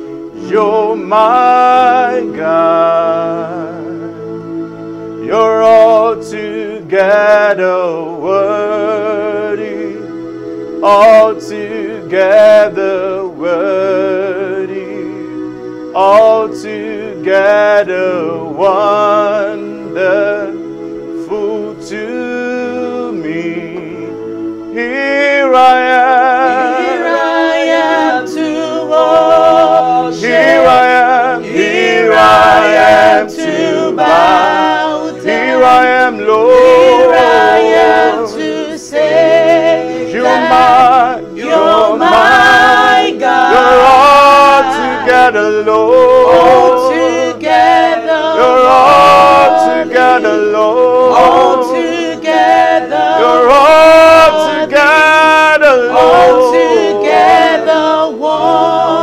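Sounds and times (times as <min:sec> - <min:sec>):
electric keyboard chords: 0:00.0 - 0:59.0
people singing gospel melody: 0:00.0 - 0:59.0.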